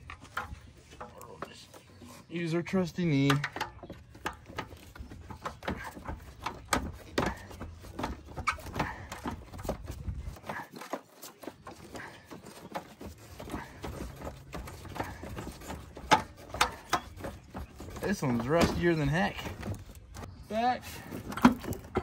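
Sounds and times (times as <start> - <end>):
metal exhaust parts knocking: 2.7 - 10.7, 11.5 - 22.0.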